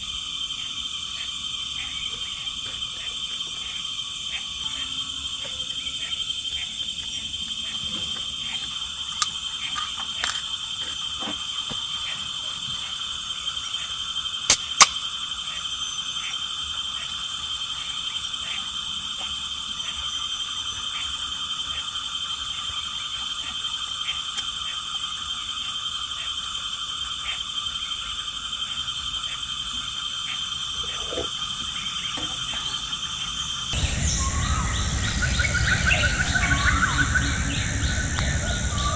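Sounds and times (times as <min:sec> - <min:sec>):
frogs calling: 0:00.0 - 0:38.9
insects droning: 0:00.0 - 0:38.9.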